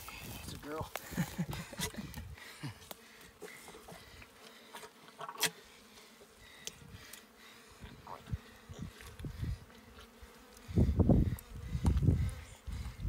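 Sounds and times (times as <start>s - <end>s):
flying insect buzzing: 0.0s - 13.0s.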